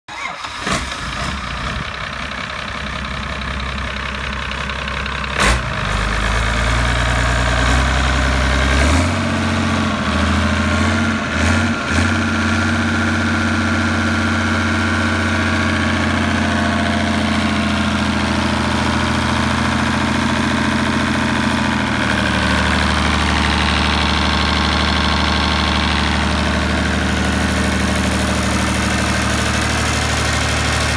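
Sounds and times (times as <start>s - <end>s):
diesel engine running: 0.1s - 30.9s.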